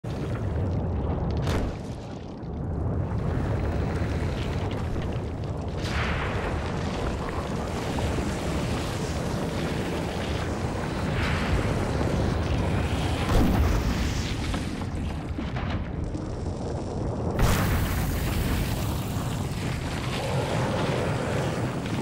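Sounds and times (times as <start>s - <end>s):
deep underwater rumbling: 0.0s - 22.0s.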